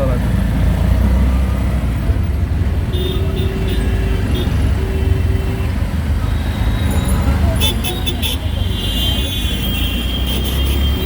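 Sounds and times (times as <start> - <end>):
auto-rickshaw engine rumbling: 0.0 - 11.0
street traffic: 0.0 - 11.0.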